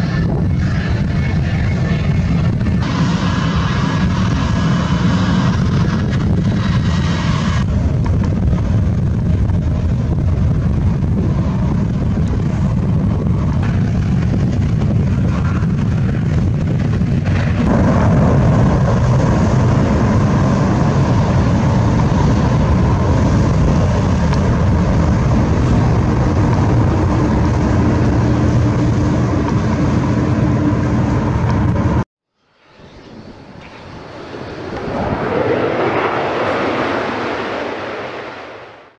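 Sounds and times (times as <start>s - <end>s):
faint steady engine whine: 0.0s - 38.6s
jet engines at takeoff: 0.0s - 38.9s.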